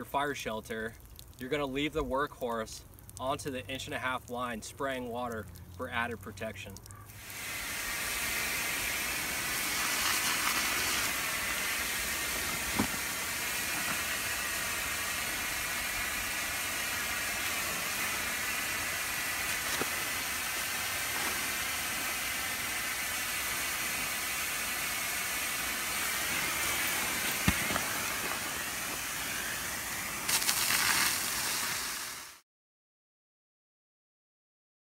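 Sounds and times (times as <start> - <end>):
fire hose spraying water: 0.1 - 32.4.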